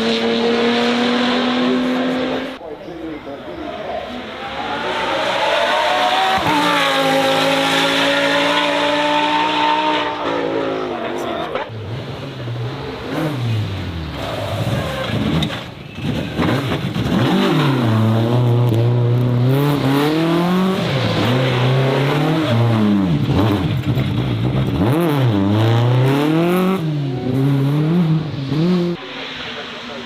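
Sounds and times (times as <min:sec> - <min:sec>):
racing car engine revving: 0:00.0 - 0:02.6, 0:04.0 - 0:30.0.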